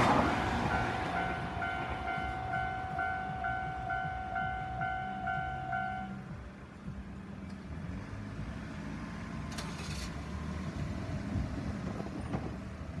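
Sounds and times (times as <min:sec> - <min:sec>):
vehicle engines humming: 0:00.0 - 0:13.0.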